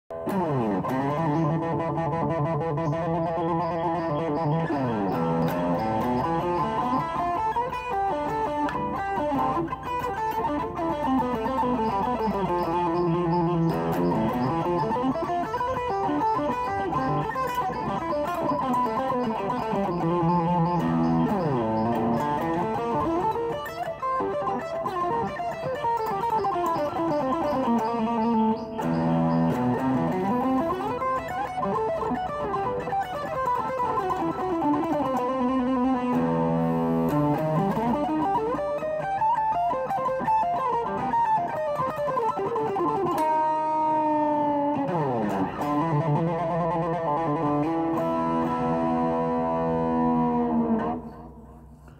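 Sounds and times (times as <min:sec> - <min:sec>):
electric guitar rock lick: 0:00.1 - 0:51.9.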